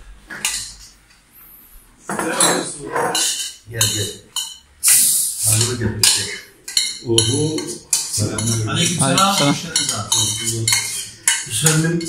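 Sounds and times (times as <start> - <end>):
dishes and metal pot clinking: 0.3 - 1.0, 2.1 - 12.0
people talking: 2.1 - 12.0.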